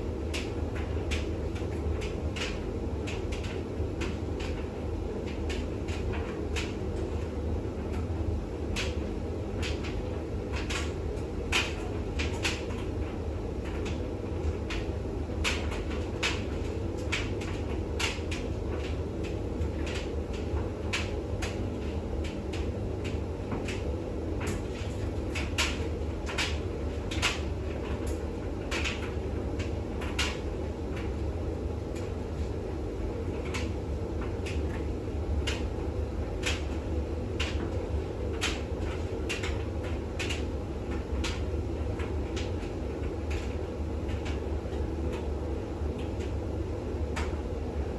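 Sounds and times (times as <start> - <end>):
washing machine spinning hum: 0.0 - 47.9.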